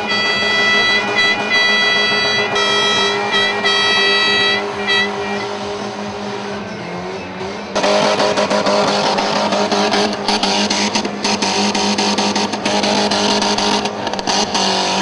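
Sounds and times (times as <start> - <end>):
demolition derby cars running: 0.0 - 15.0
high-pitched tyre squeal: 0.0 - 15.0
loud harsh noise: 0.0 - 15.0.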